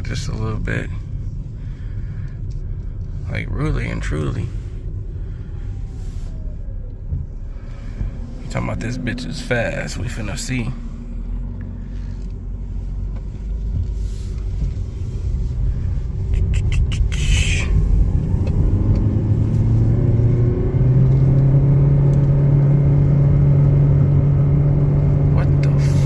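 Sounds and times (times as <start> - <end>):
car engine accelerating drone: 0.2 - 26.0.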